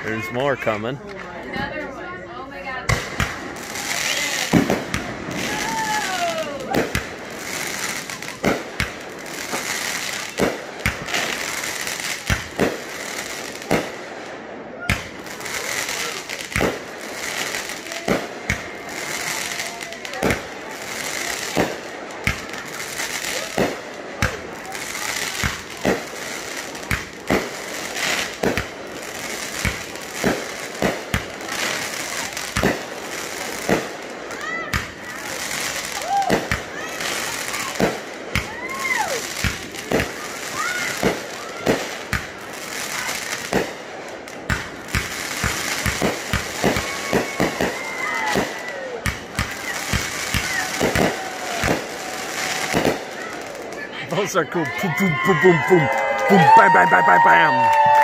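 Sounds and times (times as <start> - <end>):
fireworks crackling fizz: 0.0 - 58.0
fireworks bangs: 2.8 - 58.0.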